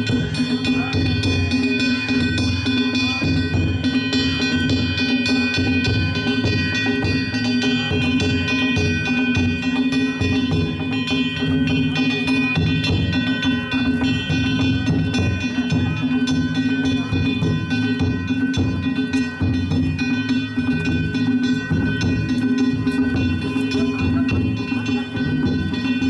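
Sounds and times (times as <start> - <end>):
large drum beating: 0.0 - 26.0
small hand gongs ringing: 0.0 - 26.0.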